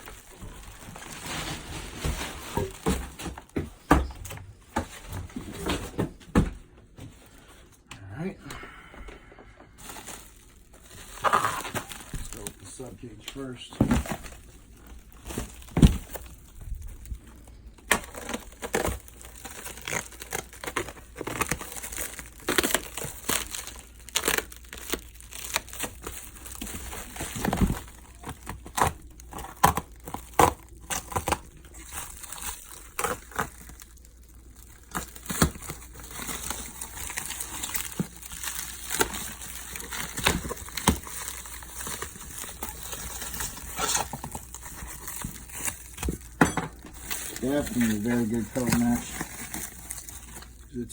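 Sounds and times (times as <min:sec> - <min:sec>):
packing wrap crinkling: 0:00.0 - 0:05.9, 0:09.7 - 0:50.9.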